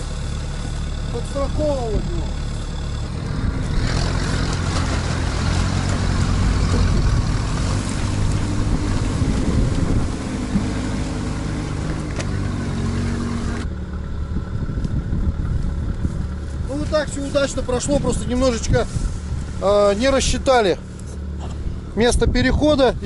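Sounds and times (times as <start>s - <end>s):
all-terrain vehicle engine working hard: 0.0s - 23.0s.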